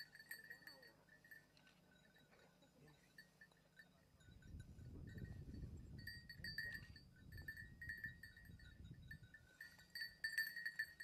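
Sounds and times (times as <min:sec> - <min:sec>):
small bell tinkling: 0:00.0 - 0:11.0.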